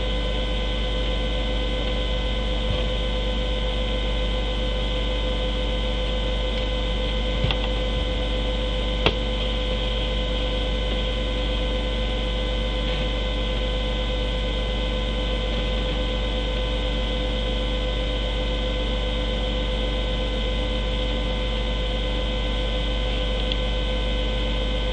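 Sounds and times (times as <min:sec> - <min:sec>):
electrical hum and hiss: 0:00.0 - 0:24.9.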